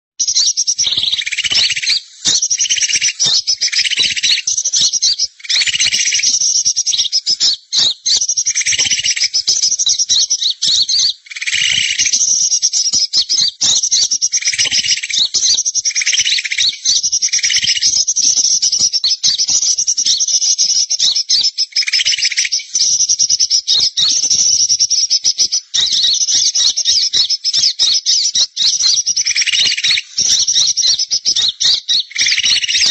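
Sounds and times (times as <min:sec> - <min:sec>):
birds chattering trill: 0:00.2 - 0:32.9.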